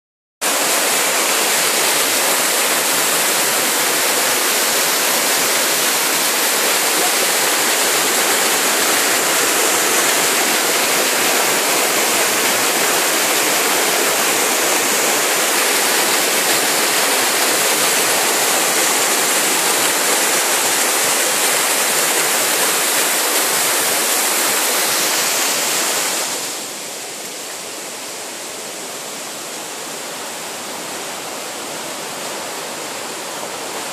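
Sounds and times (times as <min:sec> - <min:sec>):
waterfall roaring: 0:00.4 - 0:33.9.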